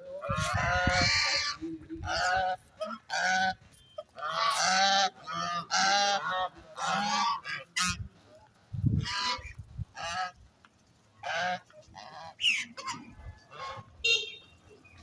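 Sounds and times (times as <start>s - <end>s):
geese honking: 0.0s - 8.1s, 9.0s - 10.4s, 11.2s - 15.0s.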